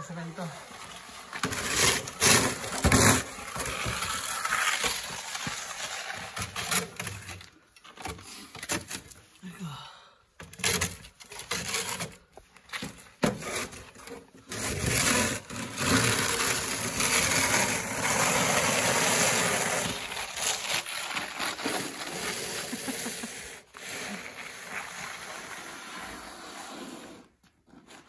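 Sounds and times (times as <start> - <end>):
snow shovel scraping concrete: 0.0 - 9.2, 10.5 - 28.0.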